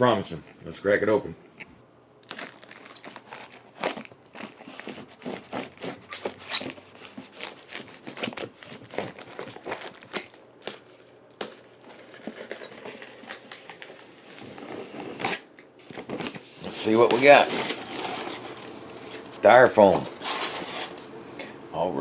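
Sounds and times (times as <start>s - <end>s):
tape tearing: 2.2s - 21.1s
cardboard and packing crinkling: 2.2s - 21.2s.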